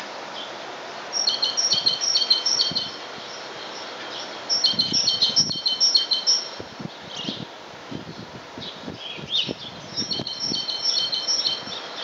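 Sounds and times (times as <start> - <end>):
background hiss: 0.0 - 12.0
songbird singing: 0.0 - 12.0.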